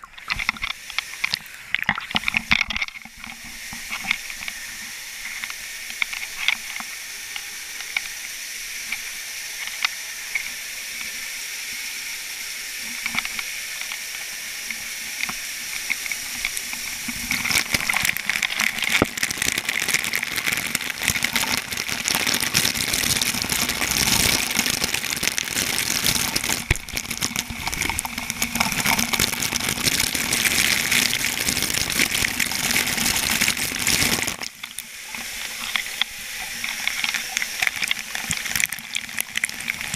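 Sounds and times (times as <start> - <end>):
water pouring and splashing: 0.0 - 11.8, 12.7 - 39.9.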